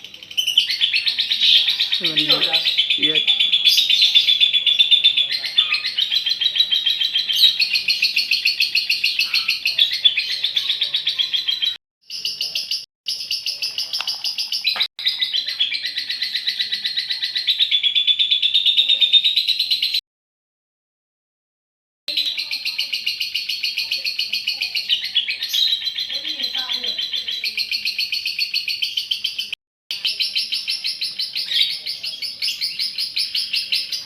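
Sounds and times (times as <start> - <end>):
lovebird chattering trill: 0.2 - 20.0, 22.1 - 34.0.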